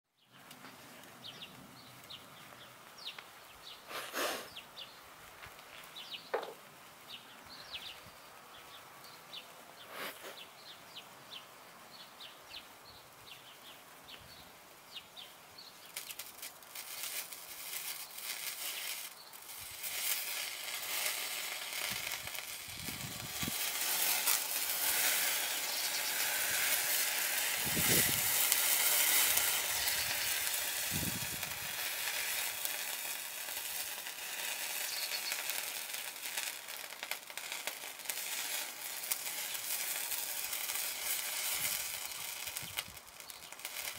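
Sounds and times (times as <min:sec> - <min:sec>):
burning mix hissing: 0:00.6 - 0:08.7, 0:09.8 - 0:11.0, 0:12.2 - 0:43.9.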